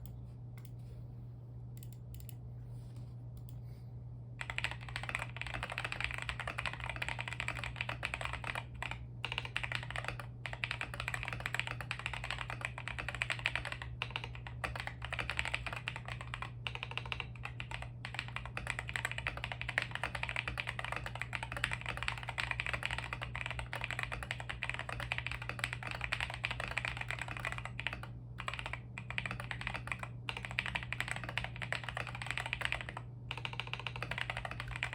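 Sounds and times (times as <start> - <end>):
steady low hum: 0.0 - 34.9
mechanical keyboard typing: 4.4 - 34.9.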